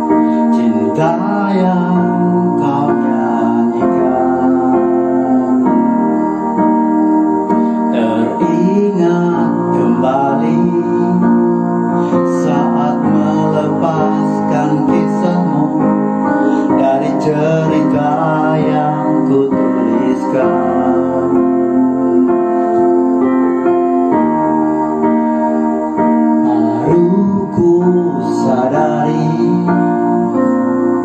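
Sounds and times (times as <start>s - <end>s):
slow piano song: 0.0s - 31.0s.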